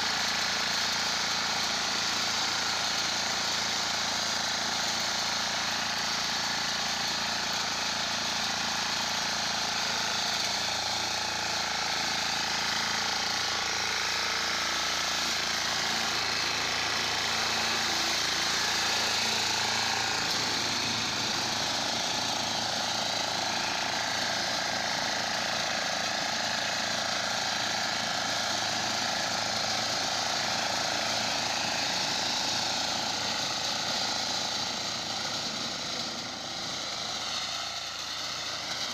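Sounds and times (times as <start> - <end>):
power reaper engine running: 0.0 - 38.9.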